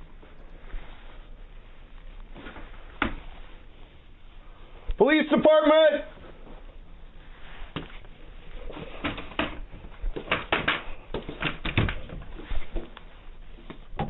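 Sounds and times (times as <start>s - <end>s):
rustling: 0.0s - 5.0s, 6.1s - 14.0s.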